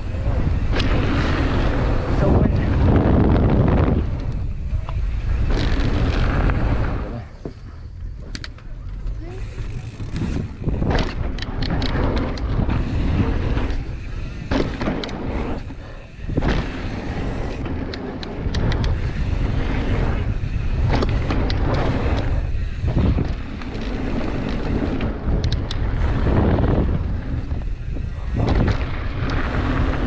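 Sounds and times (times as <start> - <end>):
bike clicking and rattling: 0.0 - 30.0
wind on microphone: 0.0 - 30.0.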